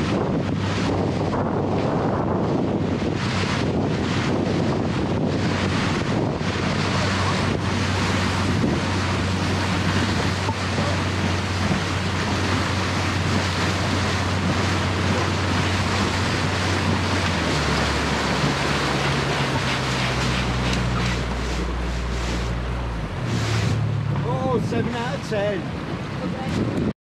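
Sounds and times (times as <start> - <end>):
speedboat engine: 0.0 - 26.9
water rushing along hull: 0.0 - 26.9
wind on microphone: 0.0 - 26.9.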